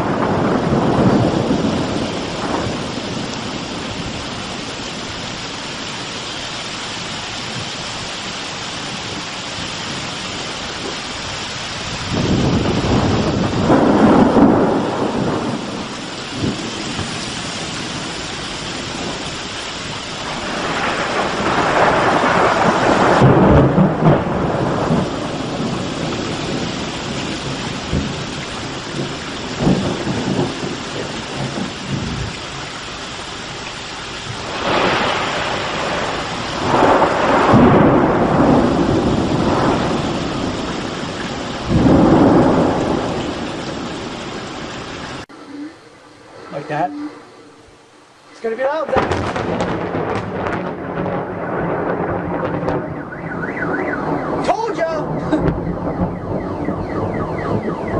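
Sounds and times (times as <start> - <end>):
steady rain: 0.0 - 57.9
thunder rumbling: 0.0 - 57.9.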